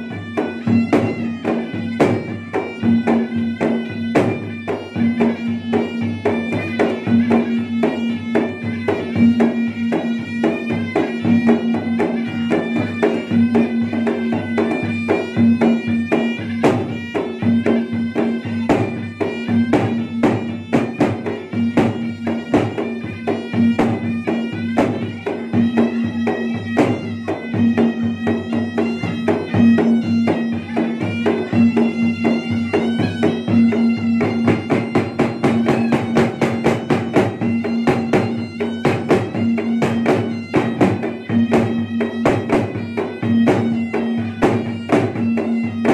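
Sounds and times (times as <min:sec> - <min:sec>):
drums beaten fast: 0:00.0 - 0:45.9
wind pipe melody: 0:00.0 - 0:45.9.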